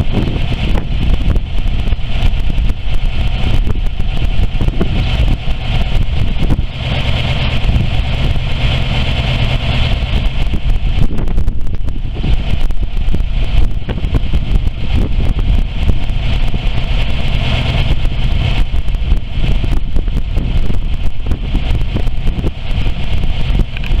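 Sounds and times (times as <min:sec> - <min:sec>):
truck engine idling roughly: 0:00.0 - 0:24.0.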